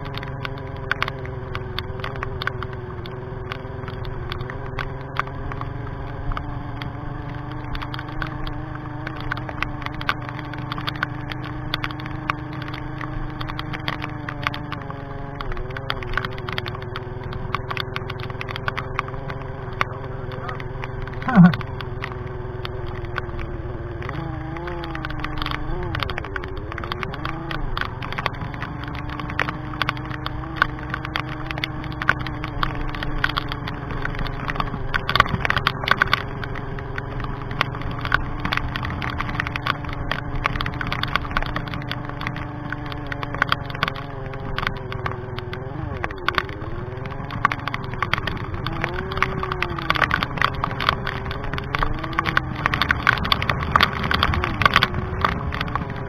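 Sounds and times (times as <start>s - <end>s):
motorcycle engine running: 0.0s - 56.0s
tyres rolling over wet gravel: 0.0s - 56.0s.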